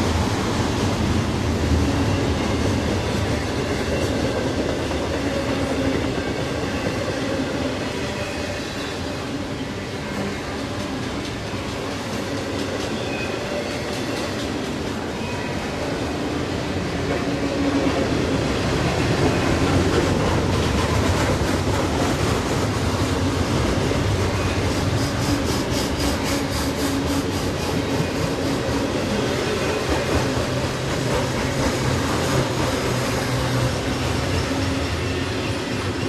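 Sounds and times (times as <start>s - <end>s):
wheel and rail noise: 0.0s - 36.0s.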